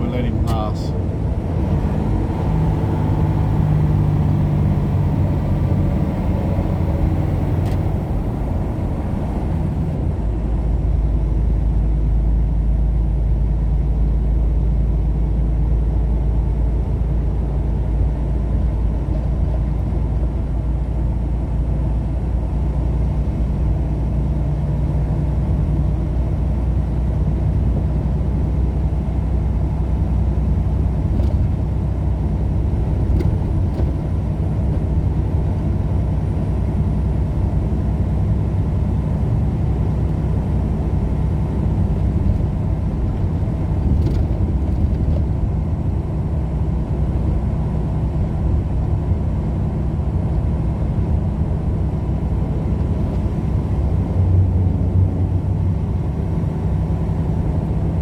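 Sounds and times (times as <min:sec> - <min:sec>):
deep low rumble: 0:00.0 - 0:58.0
vehicle engine and road drone: 0:00.0 - 0:58.0.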